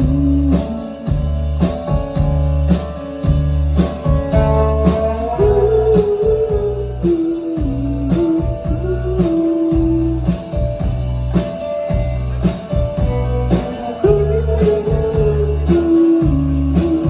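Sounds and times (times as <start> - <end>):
drum hits: 0.0 - 7.0, 9.7 - 17.0
bass notes: 0.0 - 17.0
rock band playing: 0.0 - 17.0.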